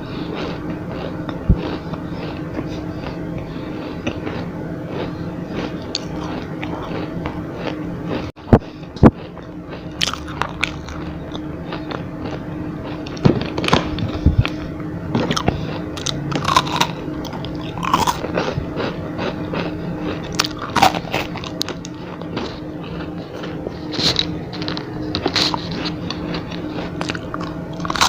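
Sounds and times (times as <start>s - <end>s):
crunchy biting and chewing: 0.2s - 28.0s.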